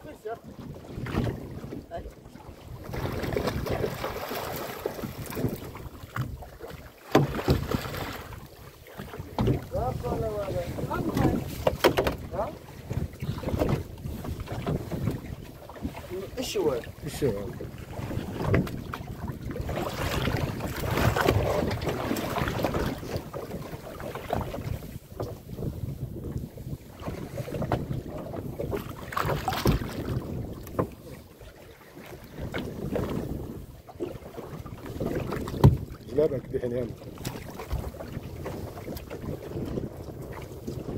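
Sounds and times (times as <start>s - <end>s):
wind buffeting microphone: 0.0s - 31.4s, 32.0s - 40.9s
water rushing around boat: 0.0s - 40.9s
water splashes: 0.0s - 40.9s.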